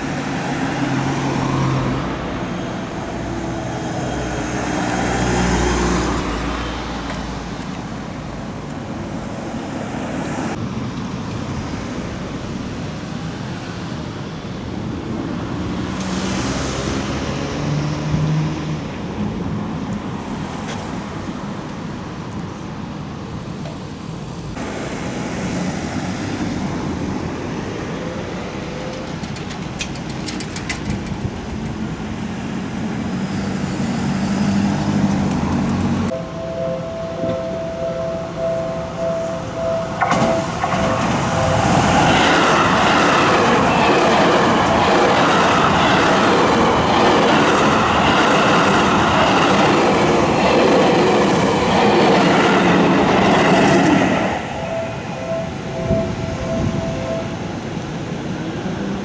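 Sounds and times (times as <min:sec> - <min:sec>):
cars passing: 0:00.0 - 0:23.4, 0:24.0 - 0:59.0
steady traffic hum: 0:00.0 - 0:59.0.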